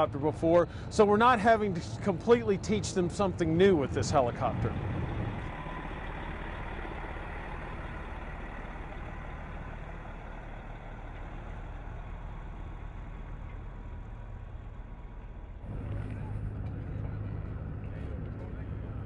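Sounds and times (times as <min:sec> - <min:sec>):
engine humming with high whine: 0:00.0 - 0:19.0.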